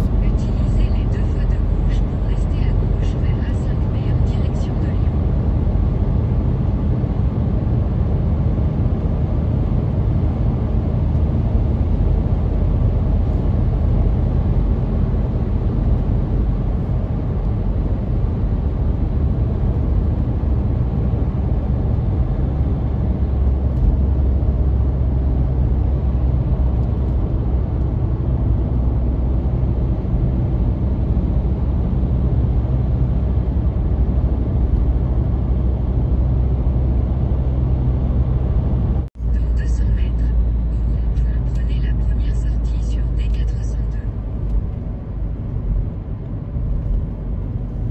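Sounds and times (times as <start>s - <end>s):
car cruising interior rumble: 0.0s - 47.9s.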